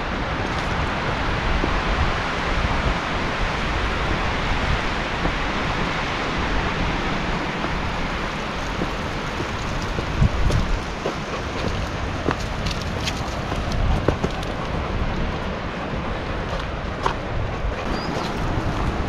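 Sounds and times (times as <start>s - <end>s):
wind rumbling on microphone: 0.0s - 19.0s
wind rustling leaves: 0.0s - 19.0s.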